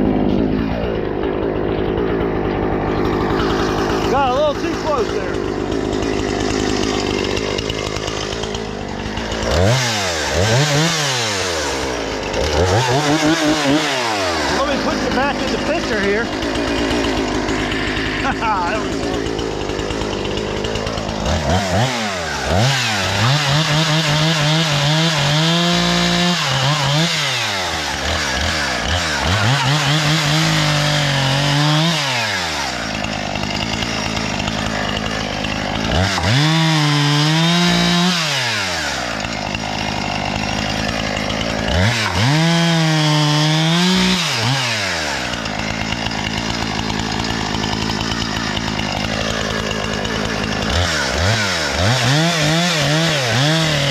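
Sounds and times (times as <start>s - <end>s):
chainsaw revving while cutting: 0.0s - 53.9s.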